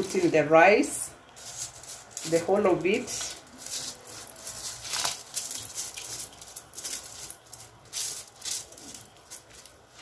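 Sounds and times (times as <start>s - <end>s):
rice scraped from a mesh sieve: 0.0s - 10.0s.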